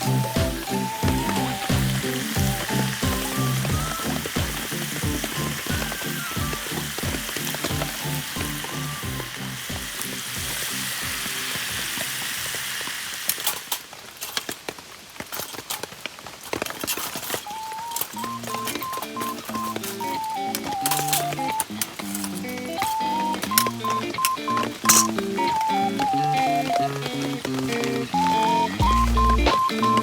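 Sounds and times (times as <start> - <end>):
background music with steady beat: 0.0 - 12.0, 17.8 - 30.0
pork sizzling on a grill: 0.0 - 30.0
spitting fat pops and crackles: 0.0 - 30.0.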